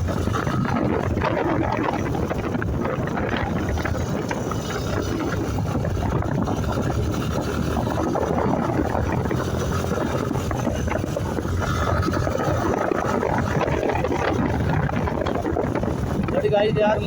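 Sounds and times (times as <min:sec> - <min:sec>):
motorcycle engine running: 0:00.0 - 0:17.0
road and wind noise: 0:00.0 - 0:17.0.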